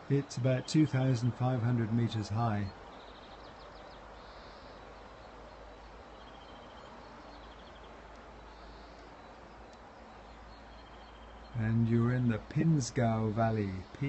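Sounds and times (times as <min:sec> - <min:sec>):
background hiss: 0:00.0 - 0:14.0
distant songbirds trilling: 0:00.0 - 0:14.0.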